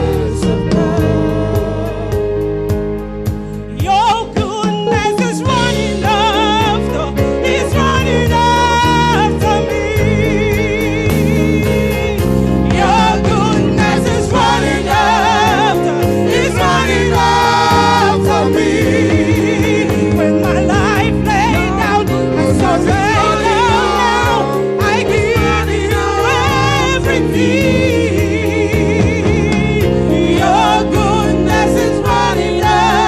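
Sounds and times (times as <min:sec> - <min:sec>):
gospel song with singing: 0:00.0 - 0:33.0.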